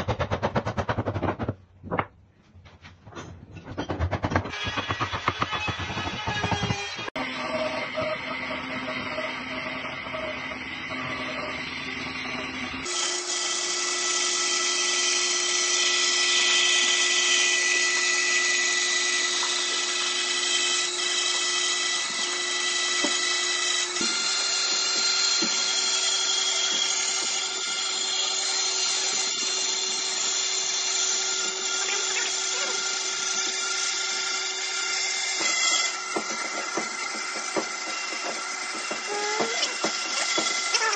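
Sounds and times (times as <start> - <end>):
band saw cutting wood: 3.6 - 40.9.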